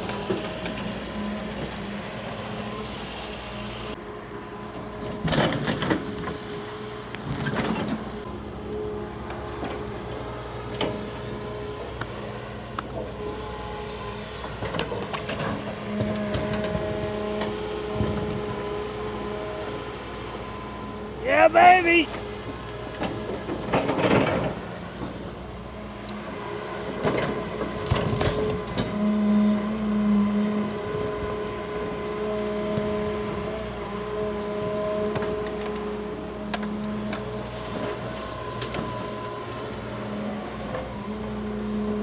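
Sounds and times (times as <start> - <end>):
excavator diesel engine: 0.0 - 42.0.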